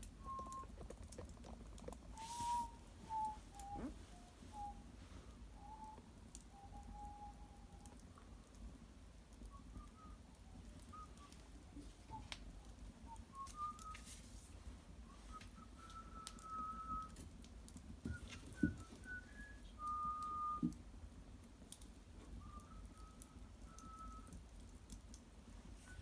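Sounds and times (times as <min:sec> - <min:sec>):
fire crackling: 0:00.0 - 0:26.0
whistling from burning wood: 0:00.0 - 0:26.0.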